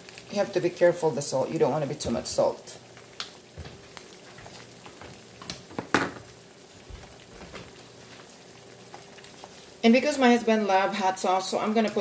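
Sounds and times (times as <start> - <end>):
grease popping: 0.0 - 9.8
eggs sizzling in a pan: 0.0 - 12.0.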